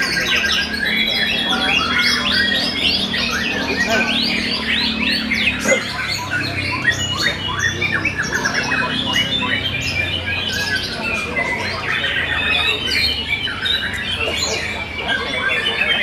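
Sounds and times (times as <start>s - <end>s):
many birds singing: 0.0s - 16.0s.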